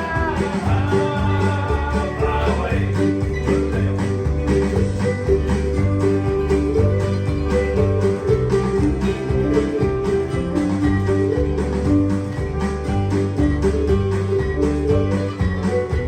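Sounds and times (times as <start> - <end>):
bass line: 0.0 - 16.0
guitar strumming: 0.0 - 16.0.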